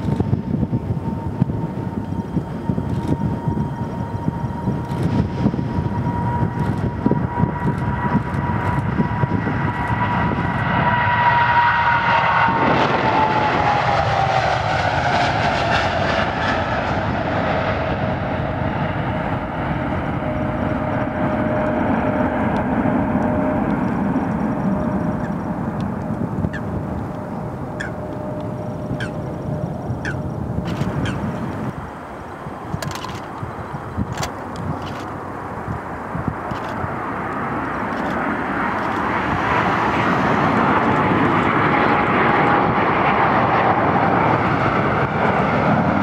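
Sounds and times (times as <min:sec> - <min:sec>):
jet engines at take-off: 0:00.0 - 0:46.0.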